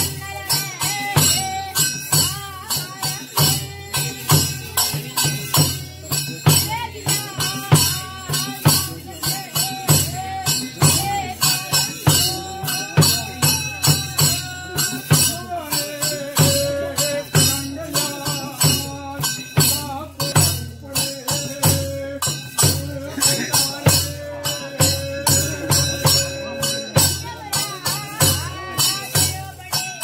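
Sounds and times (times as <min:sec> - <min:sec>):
jingling percussion: 0:00.0 - 0:30.0
steady drum beat: 0:00.0 - 0:30.0
wavering melody: 0:00.0 - 0:30.0.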